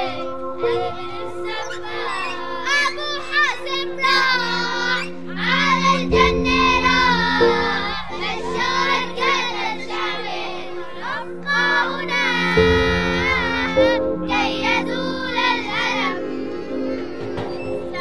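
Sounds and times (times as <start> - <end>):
children singing: 0.0 - 18.0
held music chords: 0.0 - 18.0.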